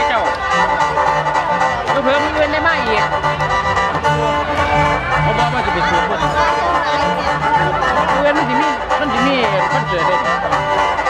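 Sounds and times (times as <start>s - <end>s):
mouth organ chords: 0.0s - 11.0s.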